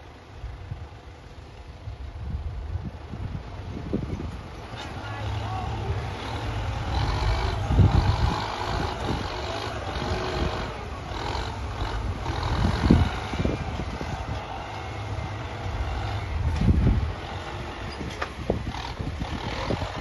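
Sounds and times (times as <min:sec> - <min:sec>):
excavator engine rumbling: 0:00.0 - 0:20.0.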